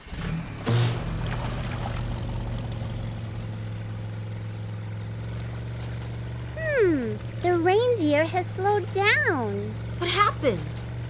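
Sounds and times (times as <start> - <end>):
cartoon boat motor drone: 0.0 - 11.0.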